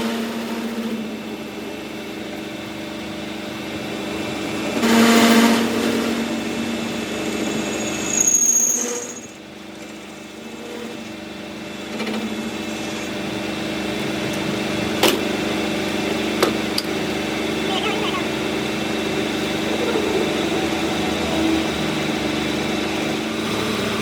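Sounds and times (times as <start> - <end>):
workshop machine humming: 0.0 - 24.0.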